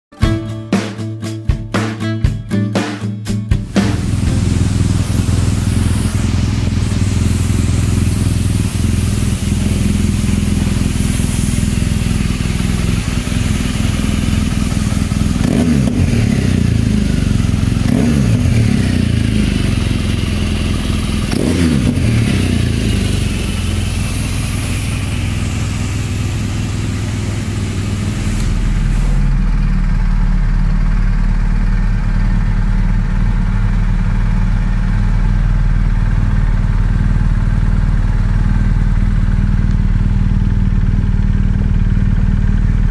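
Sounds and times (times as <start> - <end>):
motorcycle engine idling and revving: 3.6 - 42.9.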